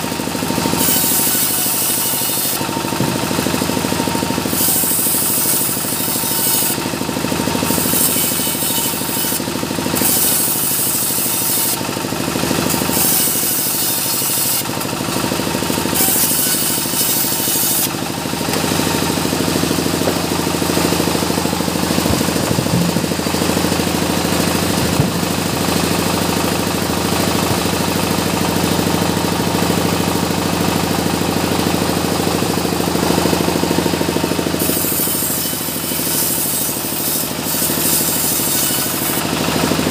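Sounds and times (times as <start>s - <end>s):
band saw cutting wood: 0.0s - 39.9s
sawmill mechanical hum: 0.0s - 39.9s.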